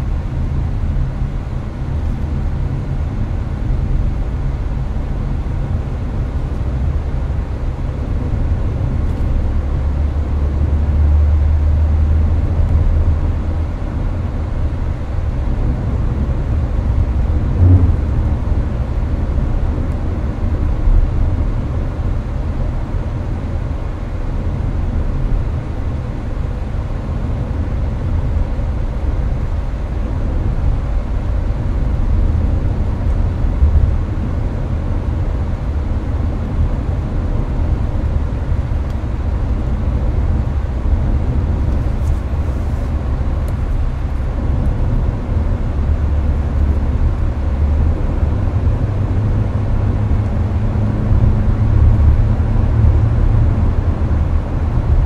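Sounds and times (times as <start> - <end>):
air-conditioning fan noise: 0.0 - 55.0
road and tyre rumble: 0.0 - 55.0.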